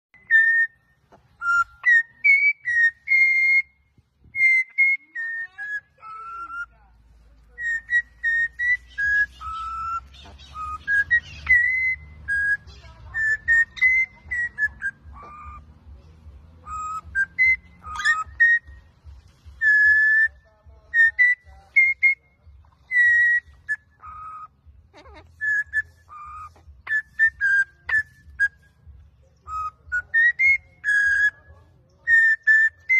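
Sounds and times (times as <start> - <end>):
budgerigar whistling: 0.2 - 6.8, 7.6 - 15.8, 16.6 - 18.9, 19.6 - 32.9.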